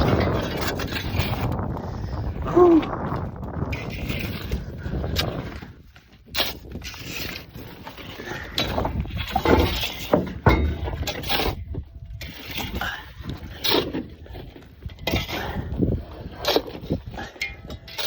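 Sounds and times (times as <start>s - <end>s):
shovels scraping dirt and gravel: 0.0s - 1.9s, 3.0s - 18.0s.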